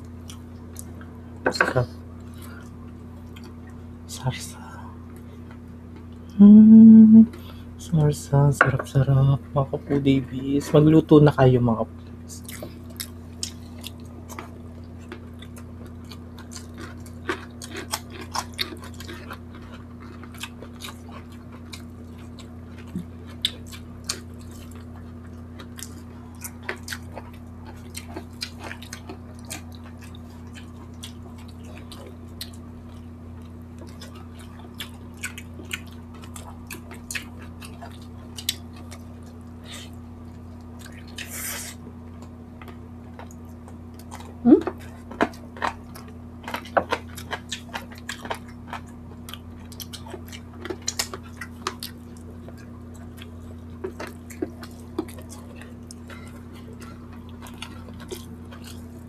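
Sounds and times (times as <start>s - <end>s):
steady low hum: 0.0s - 59.0s
chewing and lip smacks: 0.1s - 1.1s, 12.3s - 59.0s.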